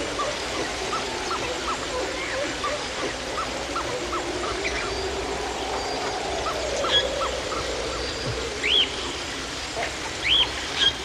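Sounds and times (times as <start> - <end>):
jungle background: 0.0 - 11.0.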